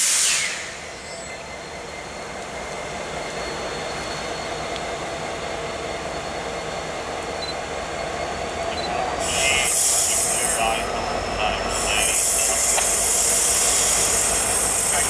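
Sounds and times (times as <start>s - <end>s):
diesel locomotive engine rumble: 0.0s - 15.0s
train wheel noise: 0.0s - 15.0s.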